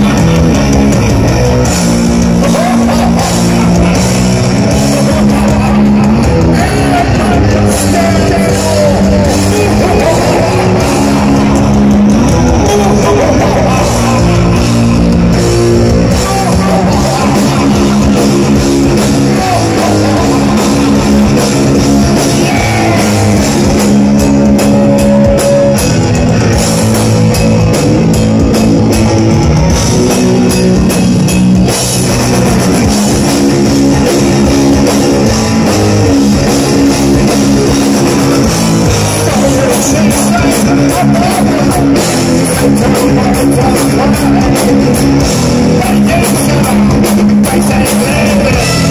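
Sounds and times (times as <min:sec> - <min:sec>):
distorted electric guitar riffing: 0:00.0 - 0:48.9
drum kit: 0:00.0 - 0:48.9.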